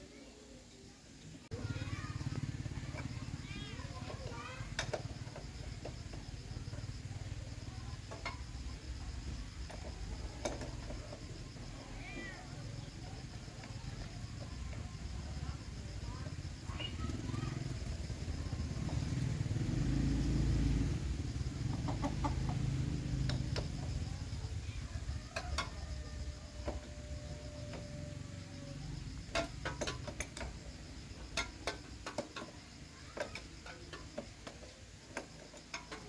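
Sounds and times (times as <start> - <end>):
small engine rumbling: 1.0 - 36.0.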